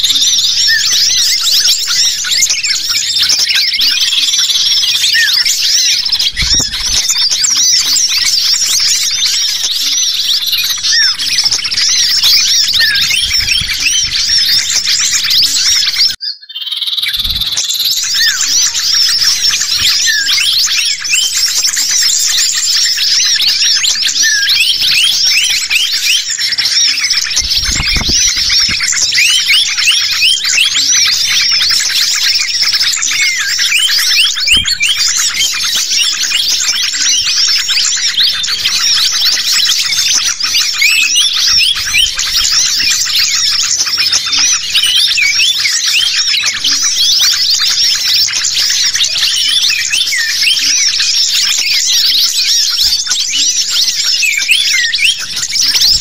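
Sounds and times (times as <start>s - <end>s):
agitated bird calls: 0.0s - 56.0s
songbirds chirping and trilling: 0.0s - 56.0s.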